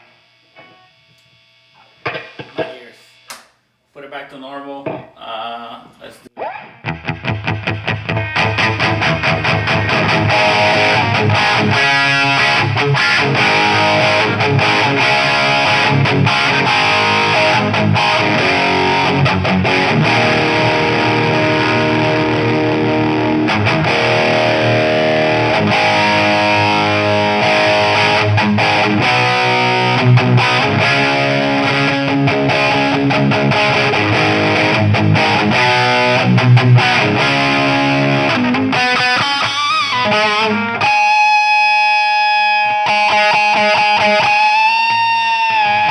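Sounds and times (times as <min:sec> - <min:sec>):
distorted electric guitar: 0:00.0 - 0:03.7, 0:04.8 - 0:45.9.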